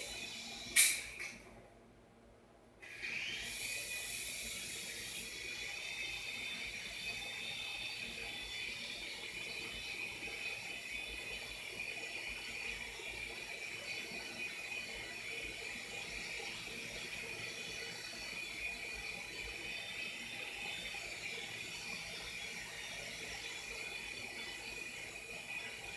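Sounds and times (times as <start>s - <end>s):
toy helicopter motors whining: 0.0s - 1.4s, 2.8s - 25.9s.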